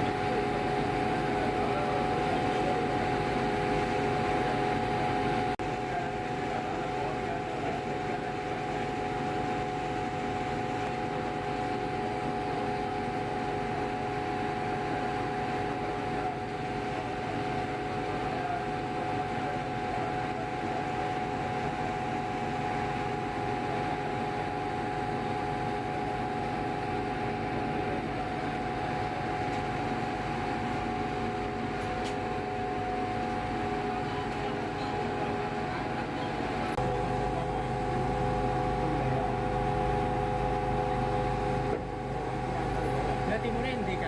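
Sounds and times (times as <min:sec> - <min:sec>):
ferry engine drone: 0:00.0 - 0:44.0.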